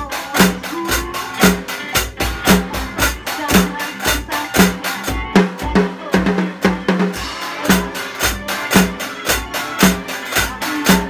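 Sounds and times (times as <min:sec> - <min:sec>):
quick drum roll: 0:00.0 - 0:11.0.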